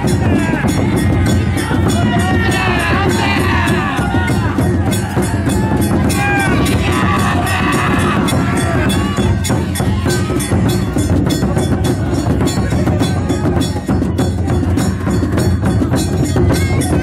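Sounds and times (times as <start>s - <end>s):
heavy drumming: 0.0s - 17.0s
people shouting: 0.0s - 17.0s.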